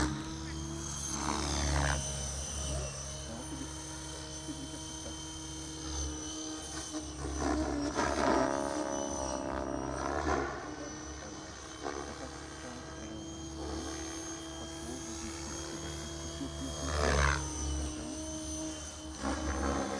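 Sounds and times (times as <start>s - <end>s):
model helicopter motor whine: 0.0s - 19.9s.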